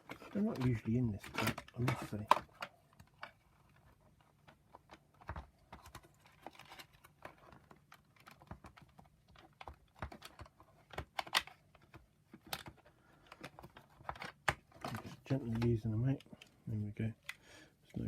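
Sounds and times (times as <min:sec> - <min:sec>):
plastic parts clicking: 0:00.0 - 0:16.6.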